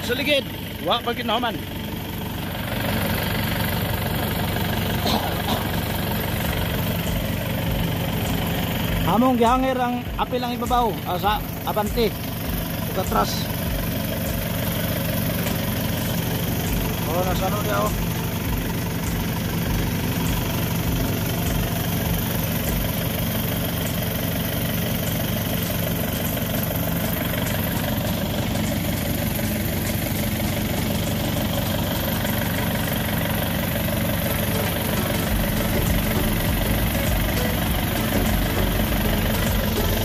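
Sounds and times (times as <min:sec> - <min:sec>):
harvester engine idling: 0:00.0 - 0:40.0.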